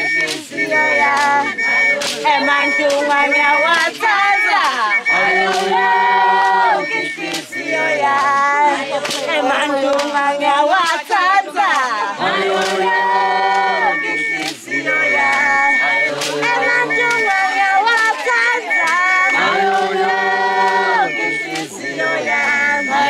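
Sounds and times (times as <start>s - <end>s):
sharp percussive hits: 0.0s - 23.0s
women singing in chorus: 0.0s - 23.0s.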